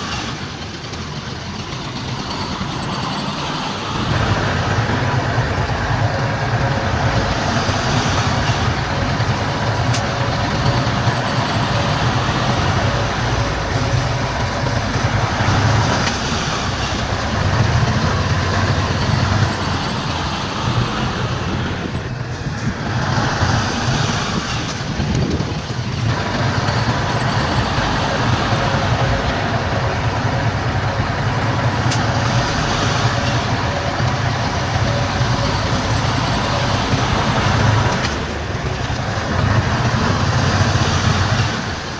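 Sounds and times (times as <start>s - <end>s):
heavy diesel engines rumbling: 0.0s - 41.9s.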